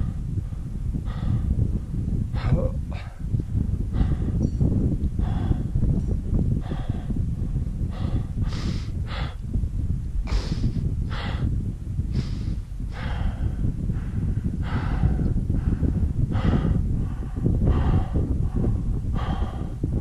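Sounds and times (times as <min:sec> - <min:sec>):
heavy rapid breathing: 0:00.0 - 0:20.0.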